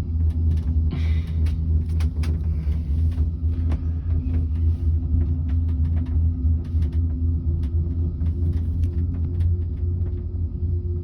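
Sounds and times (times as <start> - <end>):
cable car gondola rumble and hum: 0.0 - 11.0
light clicks and rattles: 0.1 - 10.4.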